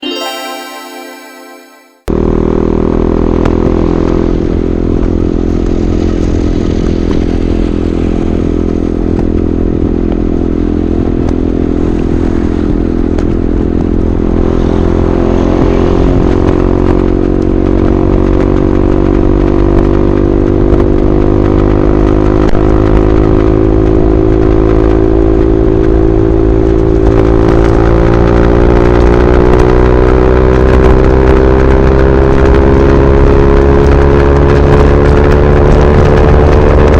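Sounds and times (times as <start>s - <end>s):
motorcycle engine at speed: 2.8s - 36.9s.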